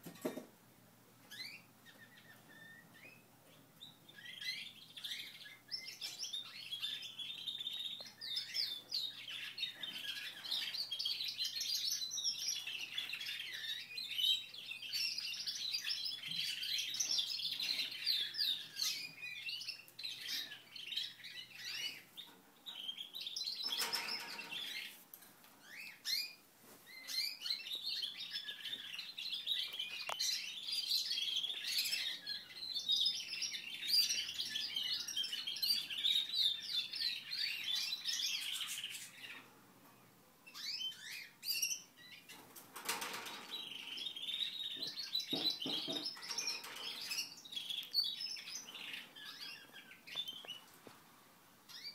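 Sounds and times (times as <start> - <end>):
canaries singing trills: 1.2 - 50.9, 51.6 - 51.9.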